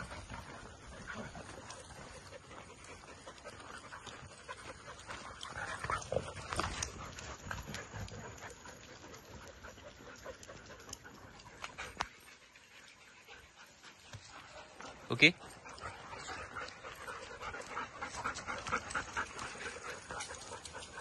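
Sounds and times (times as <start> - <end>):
paw footfalls on asphalt: 0.0 - 12.3, 13.4 - 21.0
dogs panting: 0.0 - 21.0.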